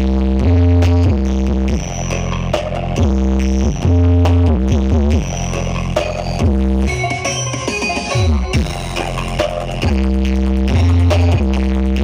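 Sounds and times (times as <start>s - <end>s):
electronic dance music: 0.0s - 12.0s
sliding bass notes: 0.0s - 12.0s.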